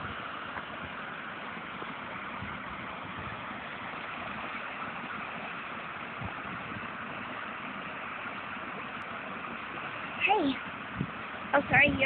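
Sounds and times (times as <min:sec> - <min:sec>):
water rushing down spillway: 0:00.0 - 0:12.0.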